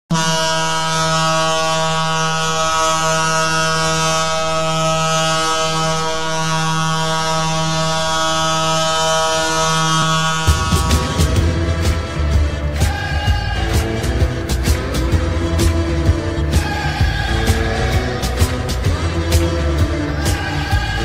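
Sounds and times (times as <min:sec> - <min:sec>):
goal horn blast: 0:00.1 - 0:21.0.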